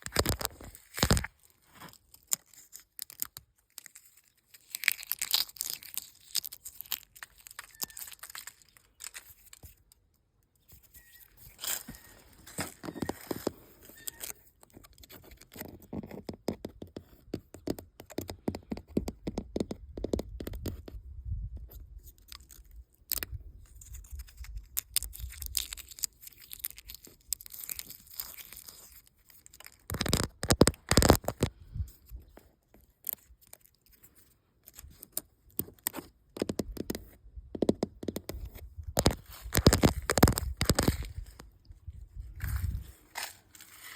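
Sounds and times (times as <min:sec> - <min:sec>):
paint flakes scraping and tearing: 0:00.0 - 0:16.5, 0:21.7 - 0:37.2, 0:38.2 - 0:43.9.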